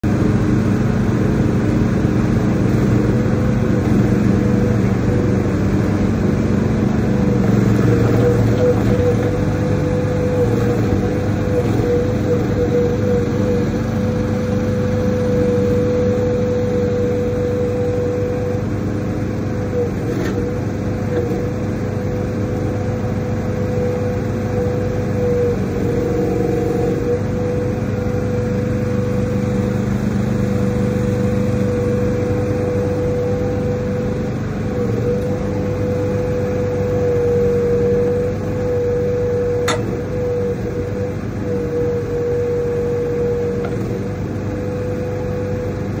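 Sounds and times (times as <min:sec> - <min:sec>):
mini excavator running: 0:00.0 - 0:46.0
hydraulic whining tone: 0:00.1 - 0:46.0.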